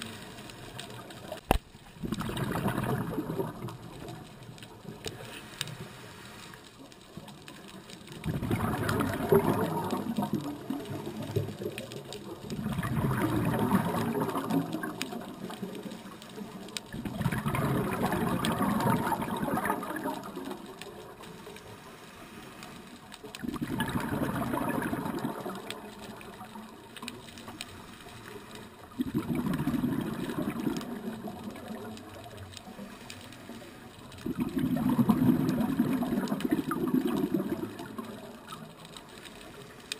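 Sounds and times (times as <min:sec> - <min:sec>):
exhaled bubbles underwater: 0:00.0 - 0:05.8, 0:06.7 - 0:22.0, 0:22.9 - 0:39.9.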